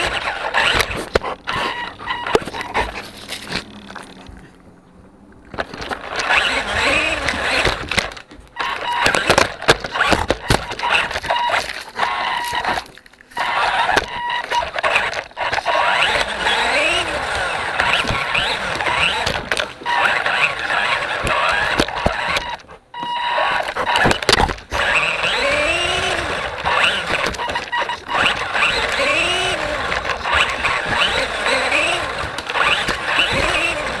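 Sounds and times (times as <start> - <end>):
small electric motor whining: 0.0 - 4.6, 5.6 - 34.0.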